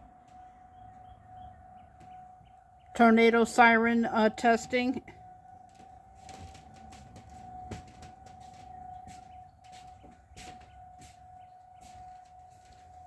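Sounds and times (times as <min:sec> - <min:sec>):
faint warning siren steady tone: 0:00.0 - 0:13.0.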